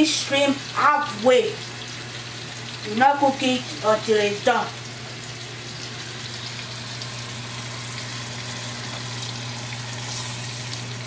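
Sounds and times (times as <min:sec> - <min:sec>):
shrimp sizzling in hot oil: 0:00.0 - 0:11.0.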